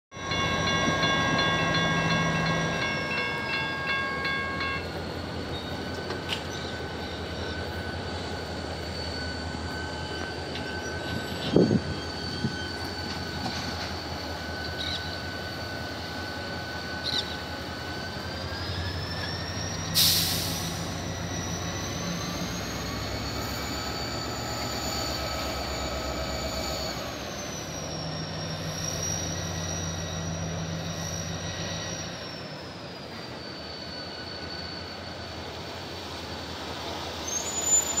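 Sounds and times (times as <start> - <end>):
train wheels squealing on rails: 0.1 - 38.0
diesel locomotive rumble: 0.2 - 38.0.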